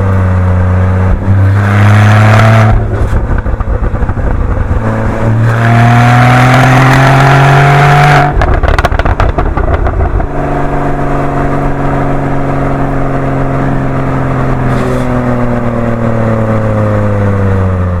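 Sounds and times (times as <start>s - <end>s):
car engine accelerating: 0.0s - 18.0s
exhaust pops and crackles: 1.0s - 16.9s.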